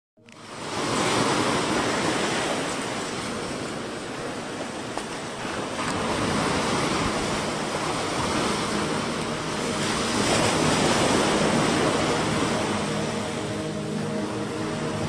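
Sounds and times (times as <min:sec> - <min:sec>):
sea waves breaking: 0:00.2 - 0:15.0.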